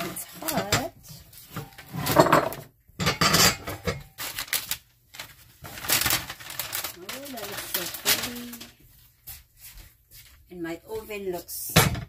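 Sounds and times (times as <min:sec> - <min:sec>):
kitchen towel rustling: 0:00.0 - 0:02.5, 0:04.1 - 0:11.7.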